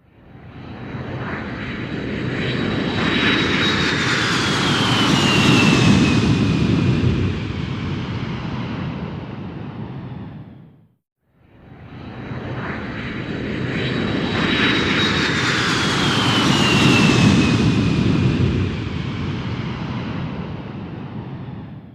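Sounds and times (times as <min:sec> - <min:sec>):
airplane flying by: 0:00.1 - 0:10.8, 0:11.5 - 0:21.9.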